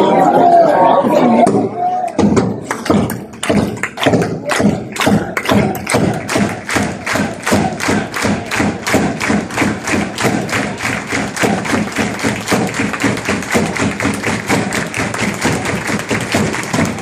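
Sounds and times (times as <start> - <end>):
bass drums beating: 1.4 - 17.0
crowd clapping: 2.0 - 17.0.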